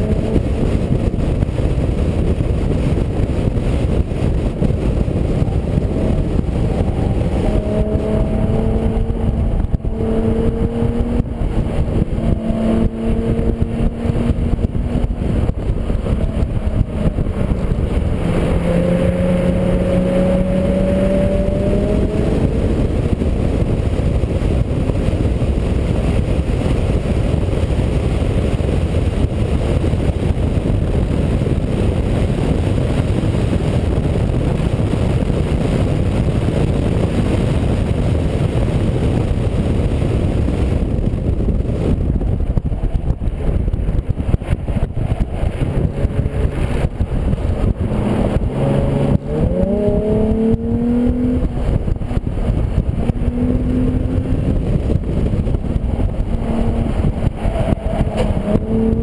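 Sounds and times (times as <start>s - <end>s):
car engine pulling hard: 0.0s - 59.0s
wind and road noise: 0.0s - 59.0s.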